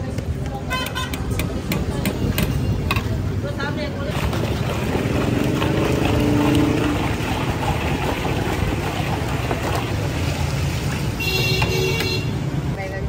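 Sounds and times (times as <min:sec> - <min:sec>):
low rumble of street noise: 0:00.0 - 0:13.0.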